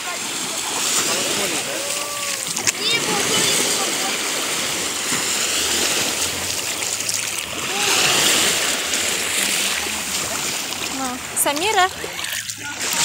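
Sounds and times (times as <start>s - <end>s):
small waves breaking on shore: 0.0s - 13.0s.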